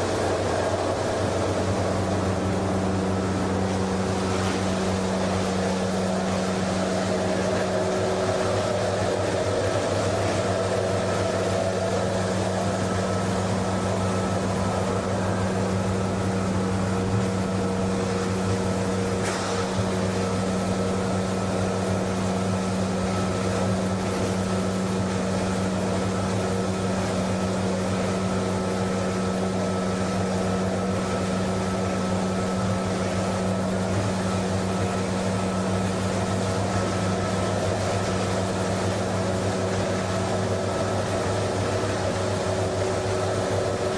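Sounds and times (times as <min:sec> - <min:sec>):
continuous machinery noise: 0:00.0 - 0:43.9
electric motors humming: 0:00.0 - 0:43.9.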